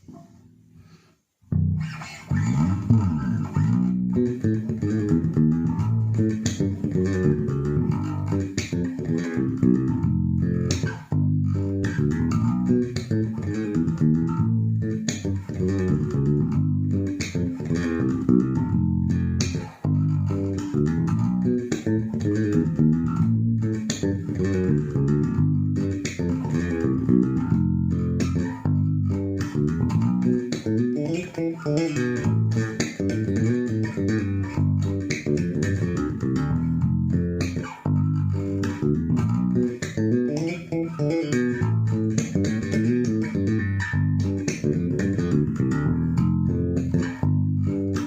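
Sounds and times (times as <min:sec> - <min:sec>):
electric bass plucked notes: 0:01.5 - 0:48.0.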